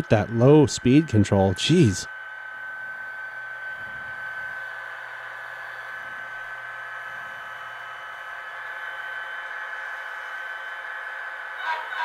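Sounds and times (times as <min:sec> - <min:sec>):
diesel locomotive engine with whine: 0:00.0 - 0:12.0.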